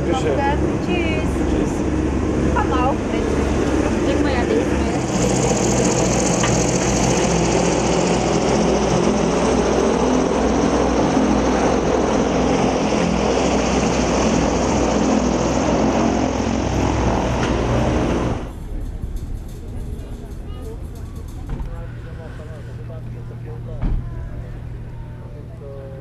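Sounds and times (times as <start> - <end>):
airship propeller engines droning: 0.0 - 26.0.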